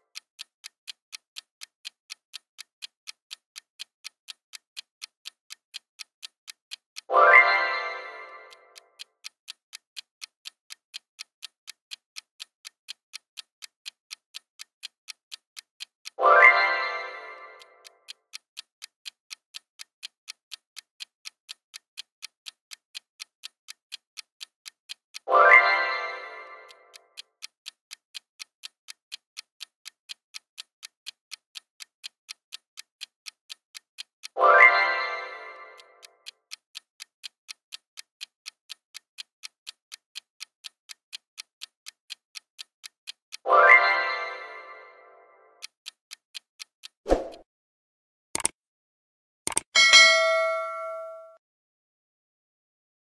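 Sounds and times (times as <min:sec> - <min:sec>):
countdown timer ticking: 0:00.0 - 0:47.4, 0:49.5 - 0:51.3.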